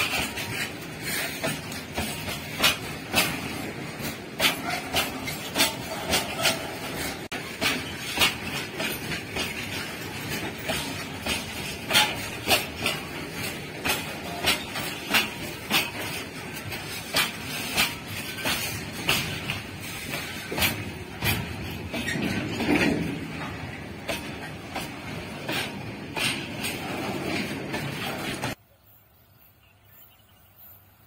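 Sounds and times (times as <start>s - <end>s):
train wheels clacking over rail joints: 0.0s - 28.6s
train rumble: 0.0s - 31.0s.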